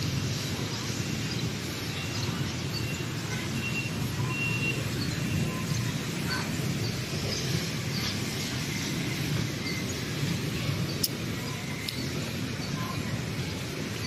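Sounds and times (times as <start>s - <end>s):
low rumble of city traffic: 0.0s - 14.0s.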